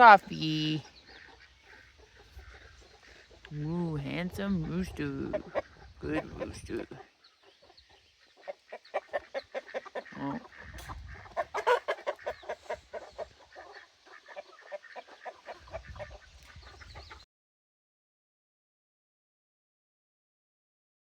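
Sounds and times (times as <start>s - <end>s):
chickens clucking: 0.0s - 17.2s.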